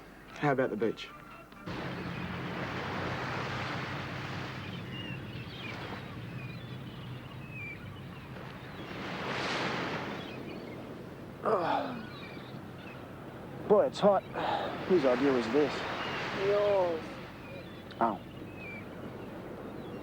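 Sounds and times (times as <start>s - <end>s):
ocean waves breaking: 1.7s - 20.0s.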